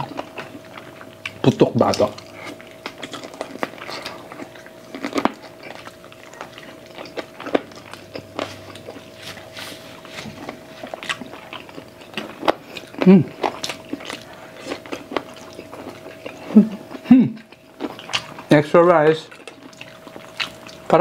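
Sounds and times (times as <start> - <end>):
people chewing meat off bone: 0.0 - 21.0.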